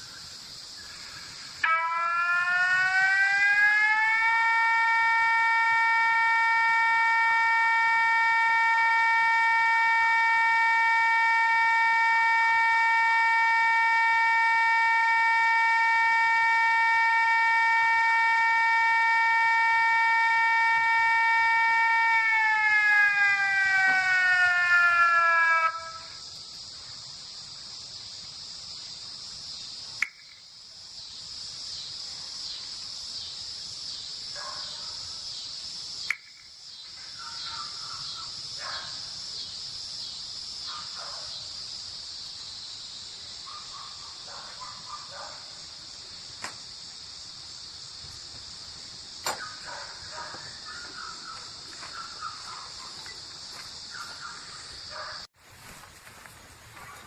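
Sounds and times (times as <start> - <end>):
insect chorus: 0.0 - 57.0.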